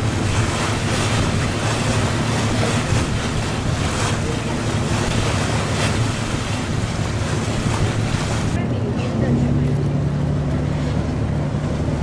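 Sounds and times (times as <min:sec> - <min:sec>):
boat engine humming: 0:00.0 - 0:12.0
water rushing past hull: 0:00.0 - 0:12.0
wind buffeting microphone: 0:00.0 - 0:12.0.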